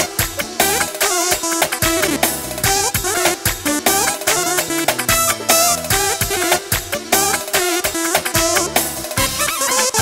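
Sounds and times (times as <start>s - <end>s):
electronic keyboard music: 0.0s - 10.0s.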